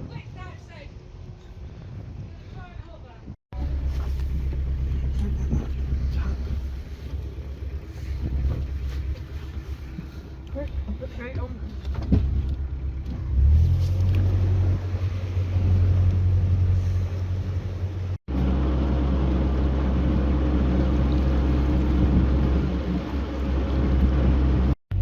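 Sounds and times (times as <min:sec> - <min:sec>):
boat engine humming: 0:03.5 - 0:25.0.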